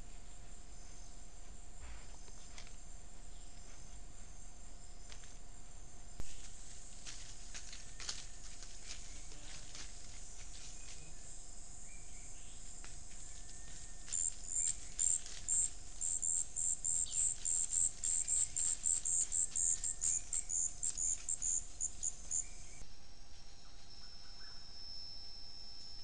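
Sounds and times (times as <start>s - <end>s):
high insect drone: 0.0s - 26.0s
insect chirping in rapid pulses: 4.4s - 22.8s, 23.5s - 26.0s.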